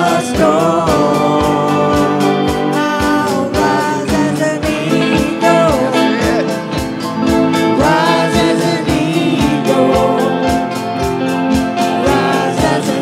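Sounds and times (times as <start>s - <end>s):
man singing into a microphone: 0.0s - 6.9s, 7.5s - 10.9s, 11.8s - 13.0s
electric guitar: 0.0s - 13.0s
keyboard: 0.0s - 13.0s
steady beat: 0.0s - 13.0s.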